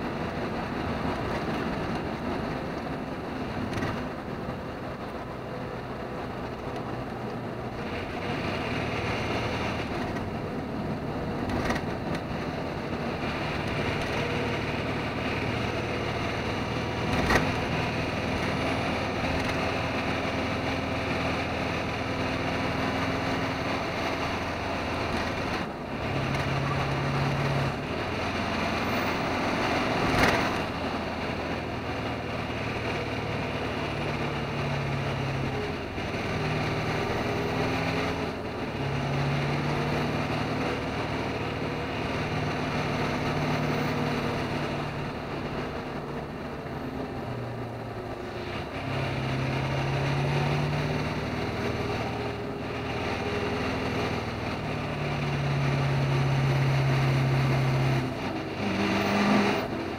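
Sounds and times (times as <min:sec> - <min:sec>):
road and tyre noise: 0:00.0 - 0:59.9
truck diesel engine running: 0:00.0 - 0:59.9.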